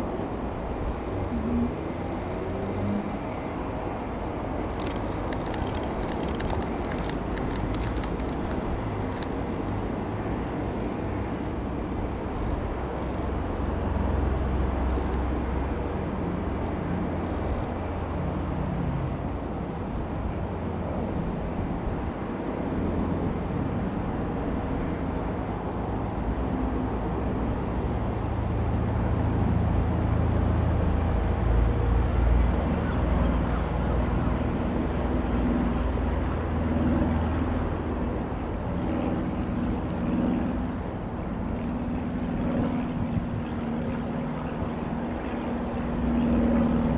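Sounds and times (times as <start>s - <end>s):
light aeroplane engine droning: 0.0s - 46.9s.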